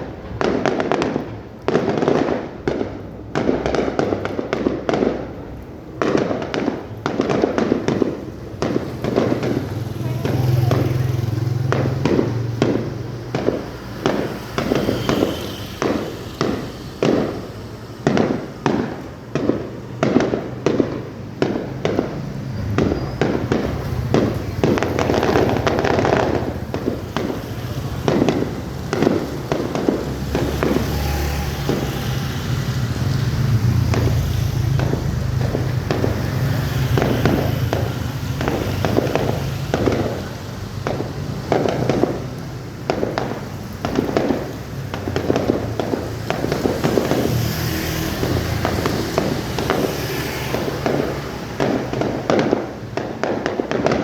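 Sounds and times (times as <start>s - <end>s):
fireworks booming: 0.0s - 54.0s
fireworks crackling: 0.0s - 54.0s.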